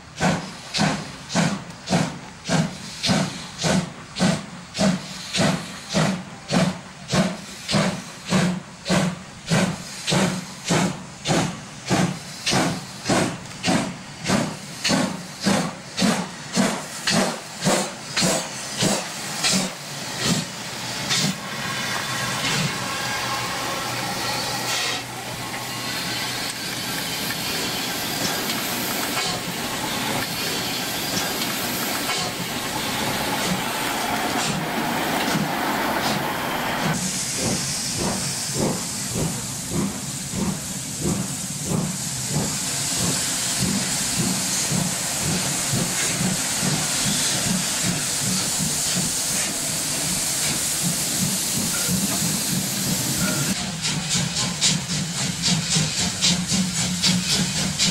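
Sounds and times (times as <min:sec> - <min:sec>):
high steam hiss: 0:00.0 - 0:57.9
steam locomotive exhaust chuffs: 0:00.0 - 0:57.9
train rumble and hiss: 0:00.0 - 0:57.9.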